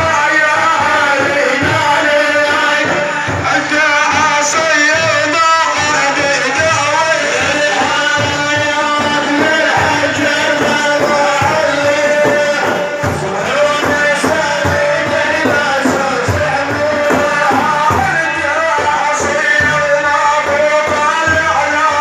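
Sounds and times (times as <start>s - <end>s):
frame drums beating: 0.0s - 22.0s
man chanting a devotional song: 0.0s - 22.0s.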